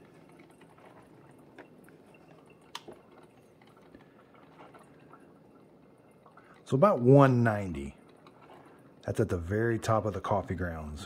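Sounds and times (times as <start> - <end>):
coffee maker dripping water: 0.0 - 11.0.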